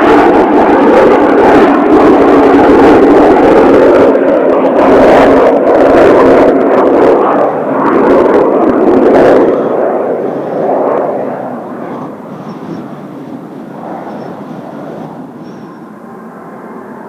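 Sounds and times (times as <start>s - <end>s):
jet roaring past overhead: 0.0s - 17.0s.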